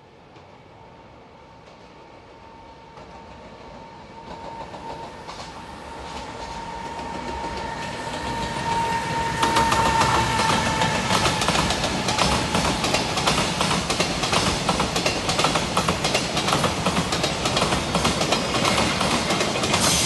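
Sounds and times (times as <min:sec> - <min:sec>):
freight train approaching: 0:00.0 - 0:20.0.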